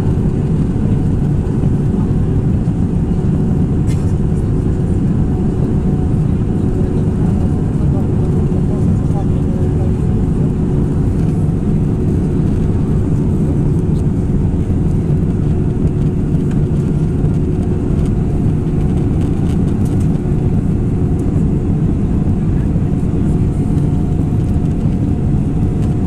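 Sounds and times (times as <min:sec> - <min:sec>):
airliner cabin rumble: 0:00.0 - 0:26.0
steady hum: 0:00.0 - 0:26.0.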